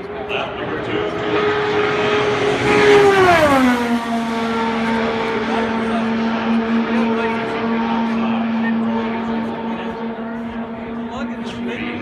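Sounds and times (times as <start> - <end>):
race car passing at speed: 0.0 - 12.0.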